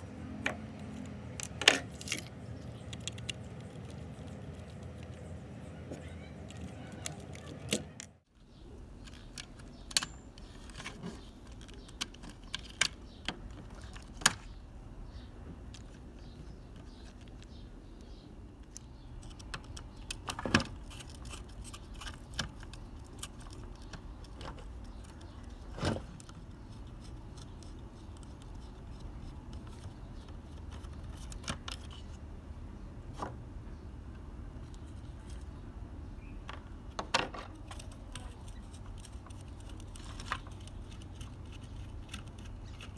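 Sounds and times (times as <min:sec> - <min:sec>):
low background hum: 0:00.0 - 0:42.9.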